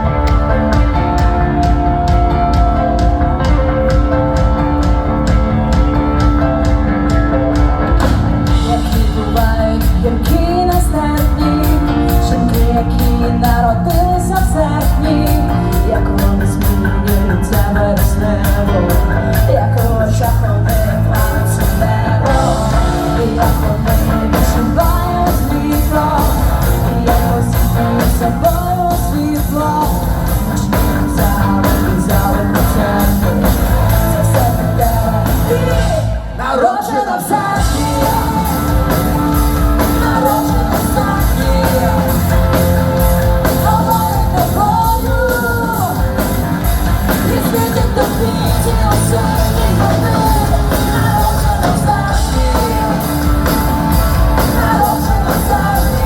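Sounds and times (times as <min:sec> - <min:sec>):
steady drum beat: 0:00.0 - 0:36.5, 0:37.2 - 0:56.0
person singing: 0:00.0 - 0:56.0
rock band playing: 0:00.0 - 0:56.0.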